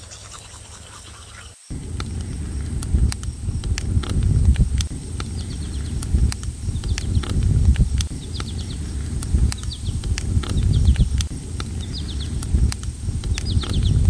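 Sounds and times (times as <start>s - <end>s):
campfire crackling and popping: 1.7s - 14.0s
low rumble: 1.7s - 14.0s.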